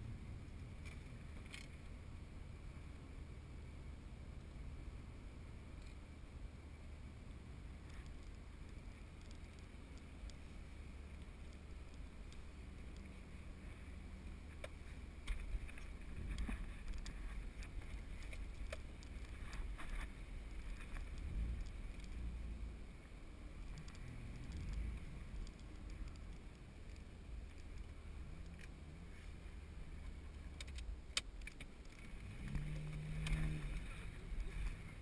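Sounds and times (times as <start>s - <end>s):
road and wind rumble: 0.0s - 35.0s.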